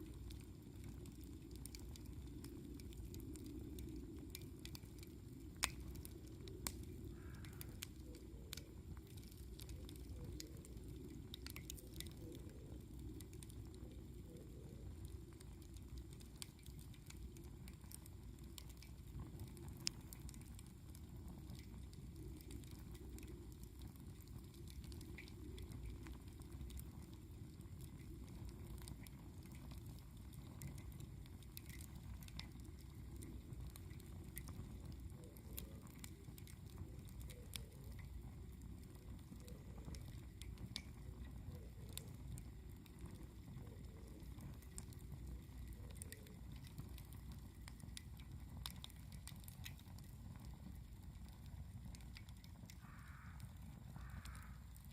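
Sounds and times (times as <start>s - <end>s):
campfire crackling and popping: 0.0s - 54.9s
low fire rumble: 0.0s - 54.9s.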